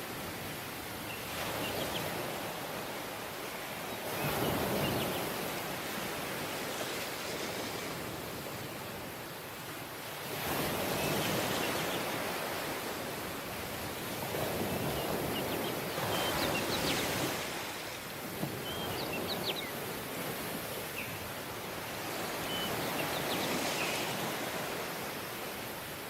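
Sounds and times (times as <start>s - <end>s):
surf washing onto beach: 0.0s - 26.0s.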